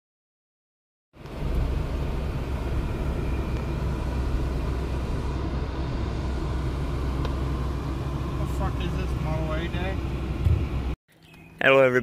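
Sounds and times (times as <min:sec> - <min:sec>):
car engine rumble: 0:01.2 - 0:11.6
road noise: 0:01.2 - 0:12.0.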